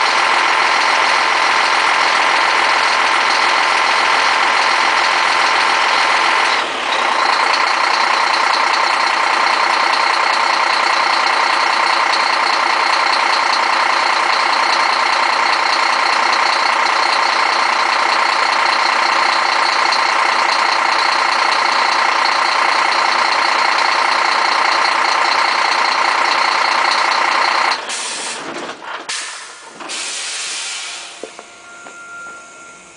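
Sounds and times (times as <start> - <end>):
truck diesel engine running: 0.0 - 32.9.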